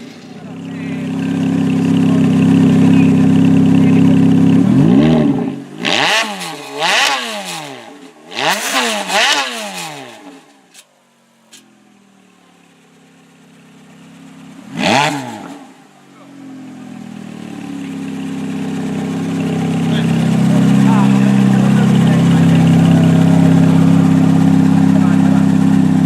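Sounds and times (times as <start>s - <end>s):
sports car engine revving: 0.0s - 10.7s, 11.6s - 26.0s.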